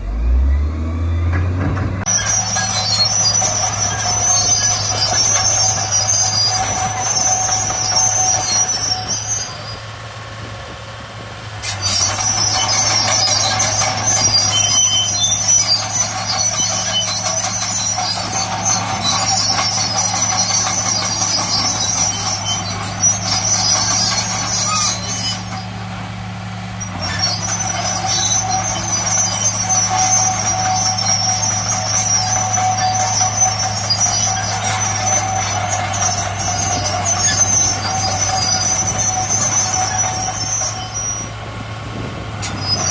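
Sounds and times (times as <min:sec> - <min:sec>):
heavy machinery diesel engine: 0:00.0 - 0:42.9.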